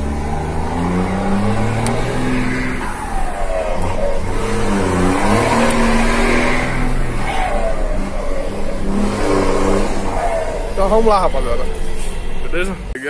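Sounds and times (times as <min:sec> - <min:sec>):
truck diesel engine shifting gears: 0:00.0 - 0:12.9.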